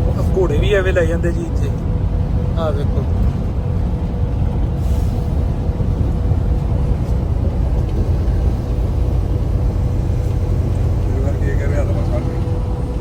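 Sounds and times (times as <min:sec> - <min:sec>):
truck engine and tyres rumbling: 0:00.0 - 0:13.0.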